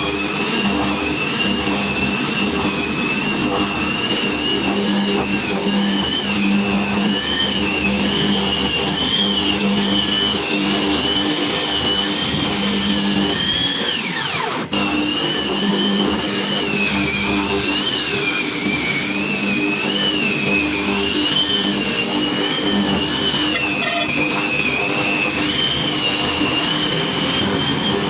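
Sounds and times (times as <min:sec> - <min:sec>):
power tool whining: 0:00.0 - 0:28.0.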